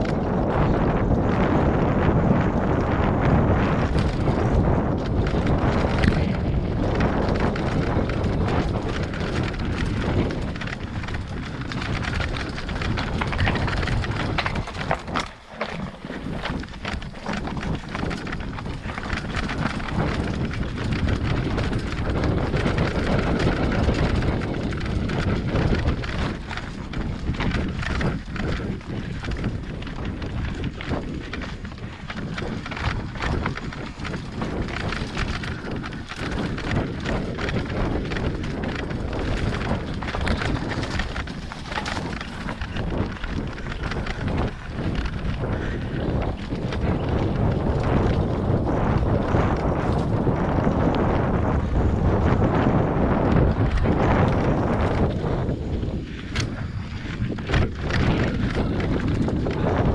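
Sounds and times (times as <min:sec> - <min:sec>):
bike tyres clattering over stones: 0:00.0 - 0:59.9
wind buffeting microphone: 0:00.0 - 0:59.9.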